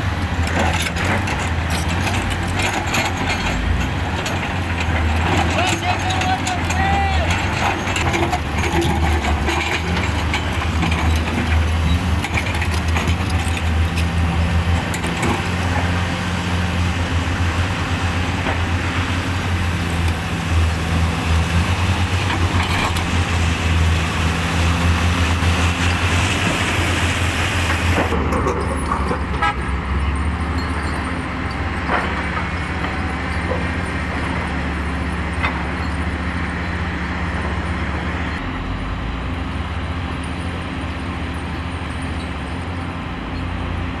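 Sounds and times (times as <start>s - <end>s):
heavy diesel engine drone: 0.0s - 44.0s.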